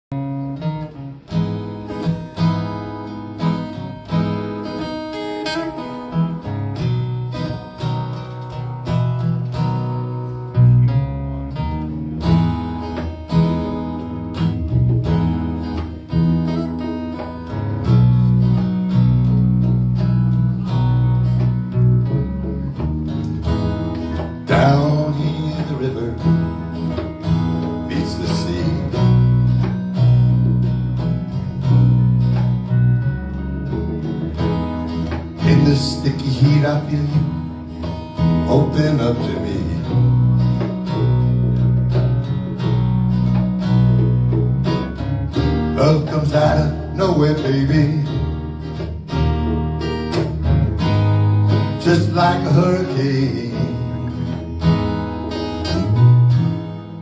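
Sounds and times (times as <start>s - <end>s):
acoustic guitar playing: 0.1s - 57.0s
deep bass notes: 6.0s - 57.0s.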